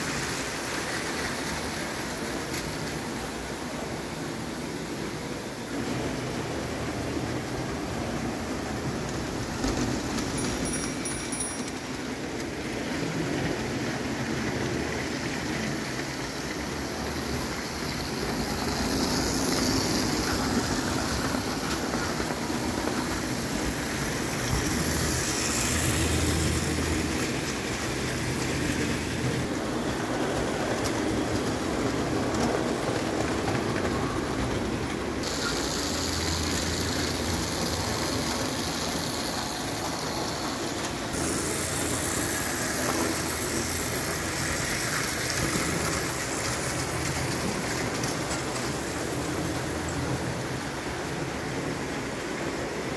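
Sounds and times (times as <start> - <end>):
toy train wheels on track: 8.8 - 51.8.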